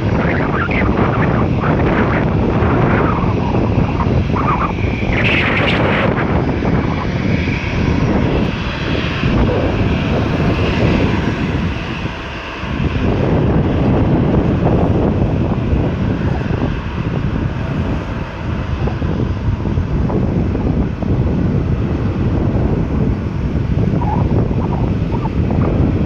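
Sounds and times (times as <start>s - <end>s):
airliner engines running: 0.0s - 26.0s.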